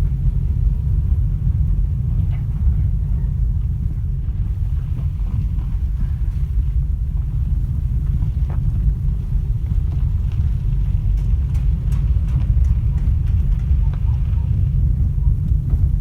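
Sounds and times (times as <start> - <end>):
low road rumble: 0.0 - 16.0.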